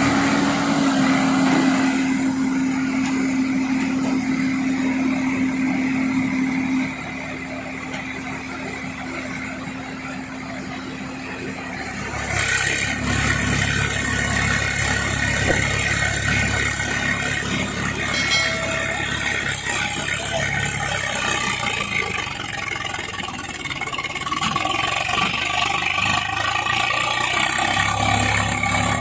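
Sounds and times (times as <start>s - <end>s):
deep engine rumble: 0.0s - 26.9s
diesel engine drone: 0.0s - 29.0s.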